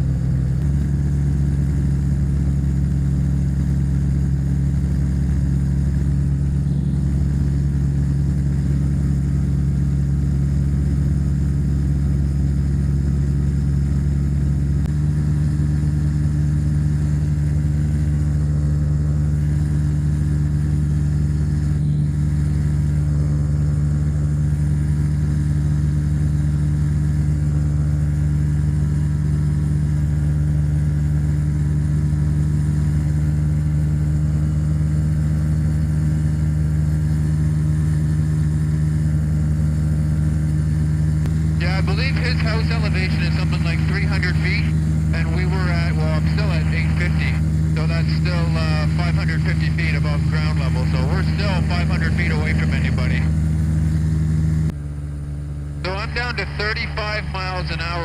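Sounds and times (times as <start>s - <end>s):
ultralight aircraft engine drone: 0.0s - 58.0s.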